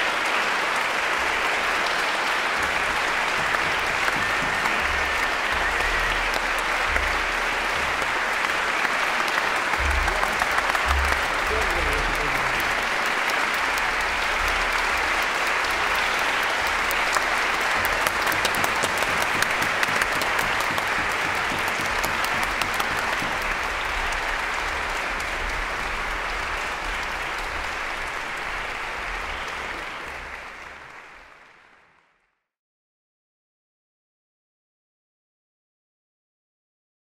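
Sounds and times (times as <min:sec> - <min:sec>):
large audience applauding: 0:00.0 - 0:32.4.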